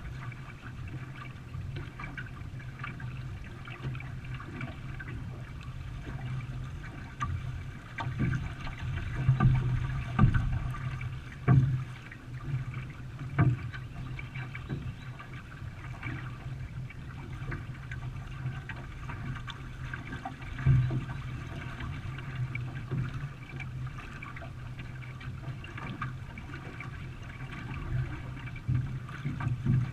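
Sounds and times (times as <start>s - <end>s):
water splashing off paddle: 0.0s - 29.9s.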